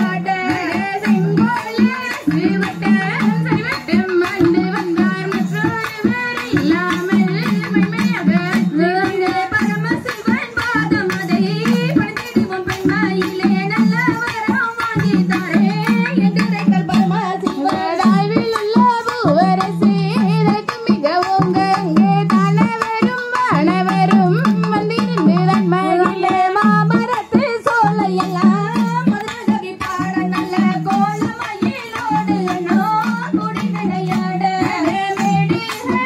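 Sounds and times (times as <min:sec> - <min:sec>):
people singing folk song: 0:00.0 - 0:14.3, 0:15.0 - 0:36.0
hand drum beats: 0:00.0 - 0:36.0.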